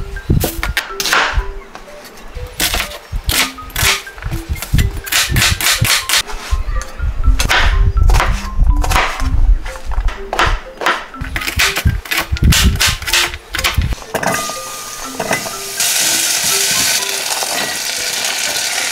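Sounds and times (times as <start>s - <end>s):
light background music: 0.0s - 18.9s.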